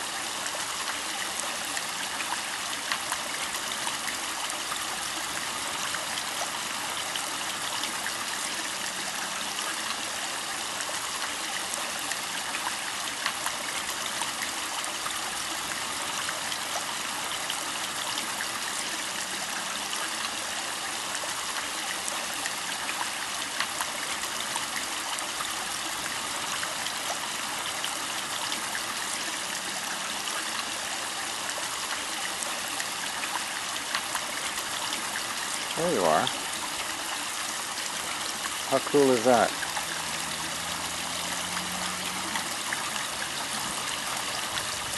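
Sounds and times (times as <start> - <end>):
water drips and splashes: 0.0 - 44.9
water trickling in a pond: 0.0 - 44.9.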